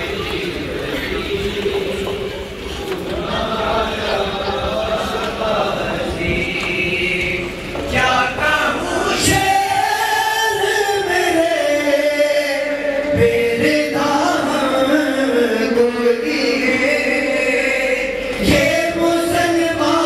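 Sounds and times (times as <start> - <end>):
voices chanting a lament: 0.0 - 20.0.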